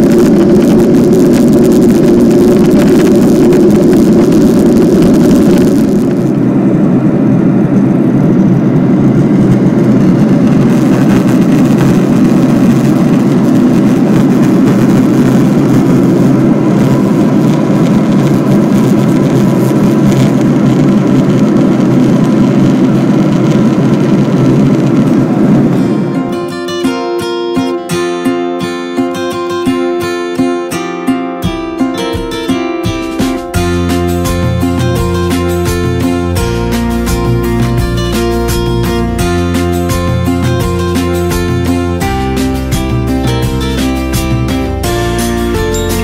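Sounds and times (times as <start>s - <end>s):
jet airliner cabin engine noise: 0.0s - 46.0s.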